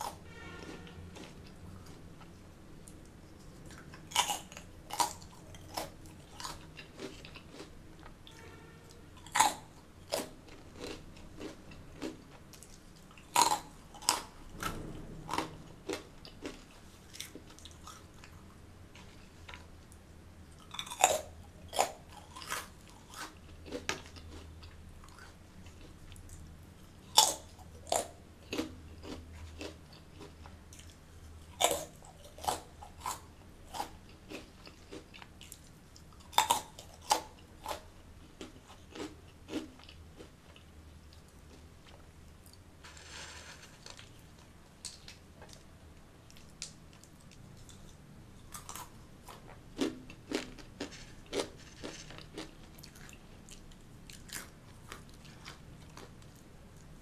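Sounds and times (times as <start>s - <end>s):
crunchy snack chewing: 0.0s - 2.1s, 3.4s - 8.5s, 9.2s - 19.7s, 20.5s - 26.4s, 27.0s - 44.1s, 46.3s - 56.9s.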